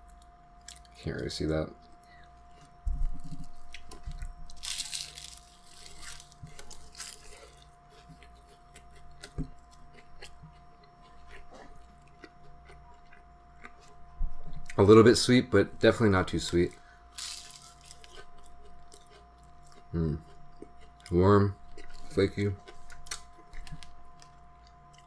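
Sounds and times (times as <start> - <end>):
crispy pastry crunch: 0.0 - 14.0, 16.0 - 25.0
person chewing with crackles: 0.0 - 15.1, 16.2 - 25.0.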